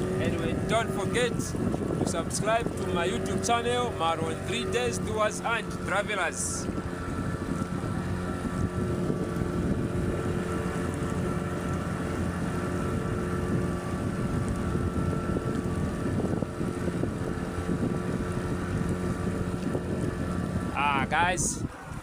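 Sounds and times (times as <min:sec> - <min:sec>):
motorboat engine running: 0:00.0 - 0:22.0
wind buffeting microphone: 0:00.0 - 0:22.0.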